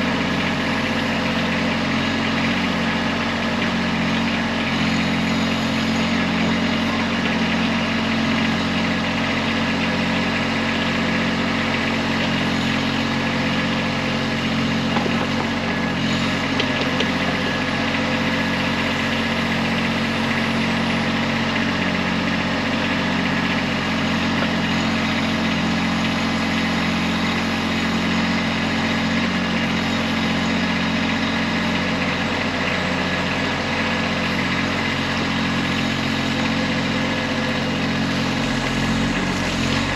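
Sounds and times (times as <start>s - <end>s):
tractor diesel engine throbbing: 0.0s - 39.9s.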